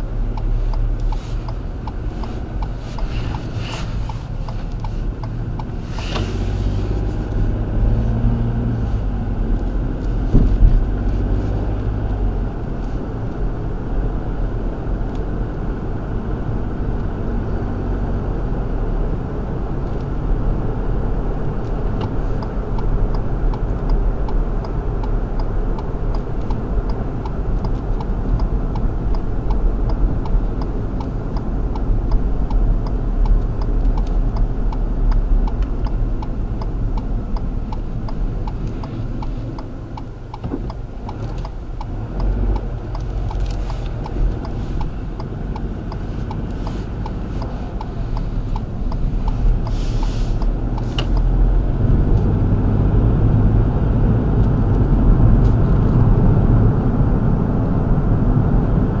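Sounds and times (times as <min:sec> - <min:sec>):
engine and road rumble: 0:00.0 - 0:59.0
turn signal ticking: 0:00.0 - 0:59.0.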